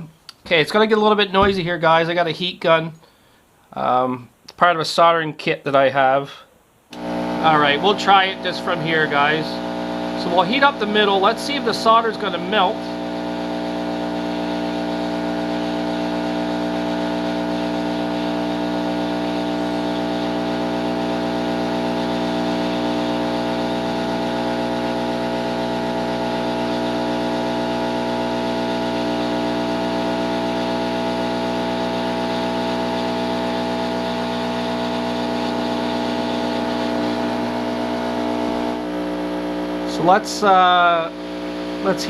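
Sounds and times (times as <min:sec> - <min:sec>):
heat gun fan whining: 0:06.9 - 0:42.0.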